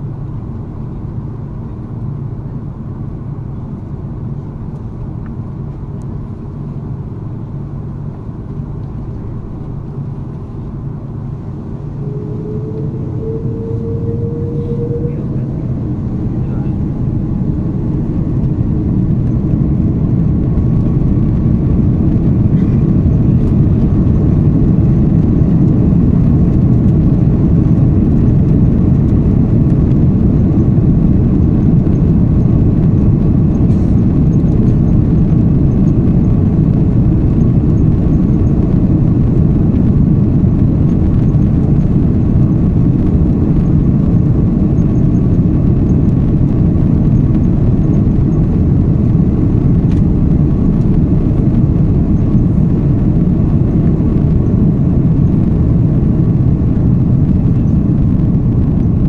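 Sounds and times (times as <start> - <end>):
jet engines low rumble in cabin: 0.0 - 59.0.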